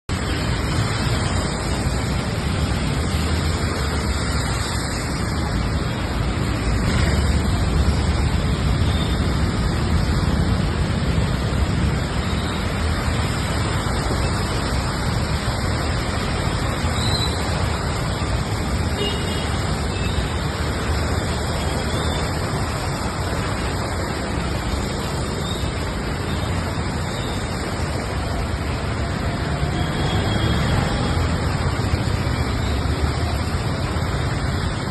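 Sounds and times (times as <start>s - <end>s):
rumble of vehicles: 0.0s - 34.9s
heavy rain on road: 0.1s - 34.9s.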